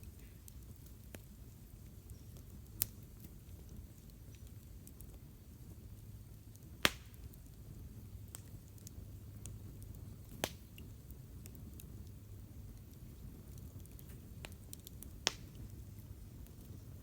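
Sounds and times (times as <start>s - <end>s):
sharp crackling pops: 0.0s - 5.3s, 6.3s - 17.0s
campfire burning: 0.0s - 17.0s.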